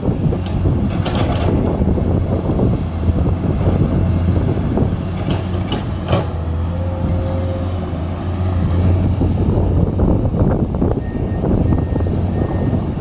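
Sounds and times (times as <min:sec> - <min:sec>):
excavator diesel engine: 0:00.0 - 0:13.0.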